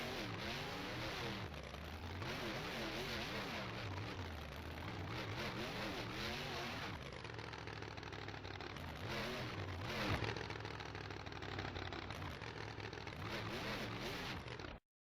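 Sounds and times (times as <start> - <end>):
truck engine revving: 0.0 - 14.8.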